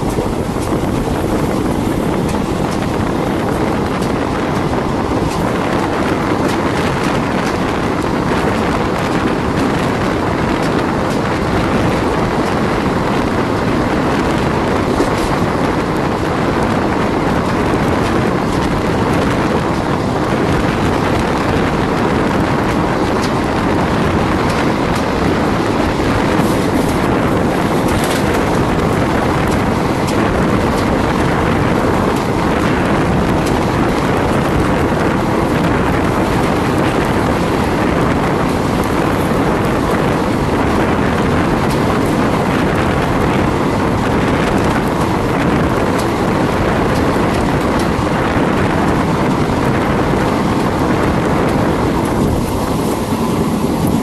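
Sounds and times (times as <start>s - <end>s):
train wheels rumbling on rails: 0.0s - 54.0s
wind on microphone: 0.0s - 54.0s.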